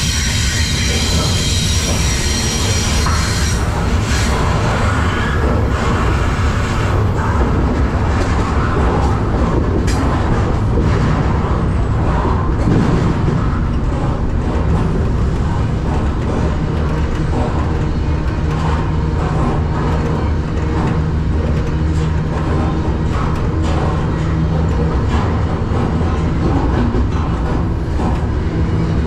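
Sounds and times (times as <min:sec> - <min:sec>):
rattling train cars: 0:00.0 - 0:29.0
train wheels rumbling on rail: 0:00.0 - 0:29.0.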